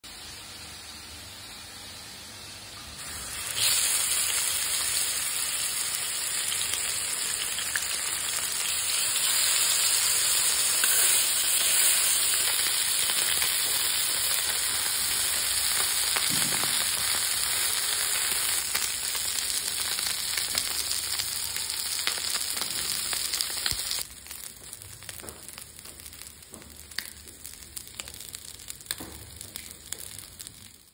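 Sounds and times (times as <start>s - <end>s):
fish sizzling in hot oil: 3.0s - 30.9s
oil crackling and ticking: 3.5s - 30.9s.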